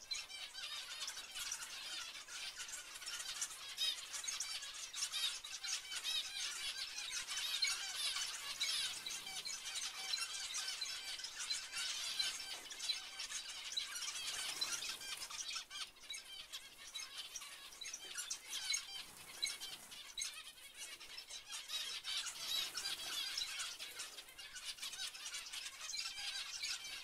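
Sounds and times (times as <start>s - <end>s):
finches calling: 0.0s - 27.0s.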